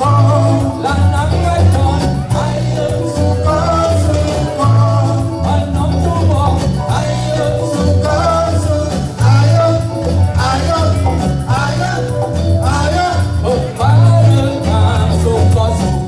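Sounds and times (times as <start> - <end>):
band playing live: 0.0 - 16.0
person singing a melody: 0.0 - 16.0
steady bass line: 0.0 - 16.0.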